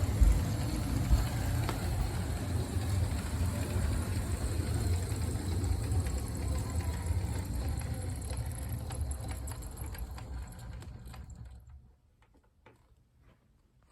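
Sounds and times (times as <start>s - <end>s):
model train motor hum: 0.0s - 11.8s
small clicks of train wheels: 0.0s - 13.9s.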